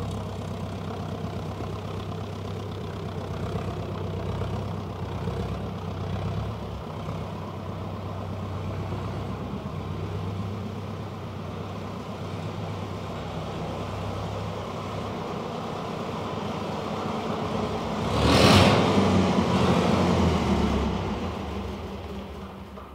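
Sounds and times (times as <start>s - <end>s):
diesel tractor engine running: 0.0s - 22.9s.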